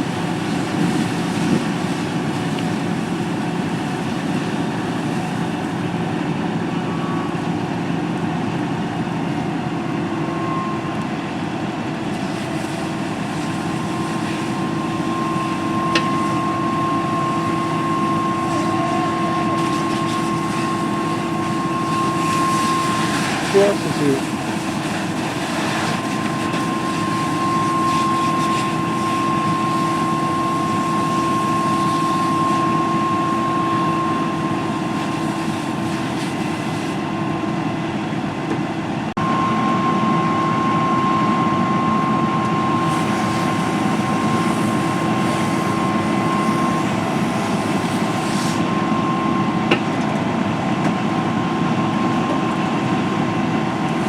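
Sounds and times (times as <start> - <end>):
large vehicle engine droning: 0.0 - 54.0.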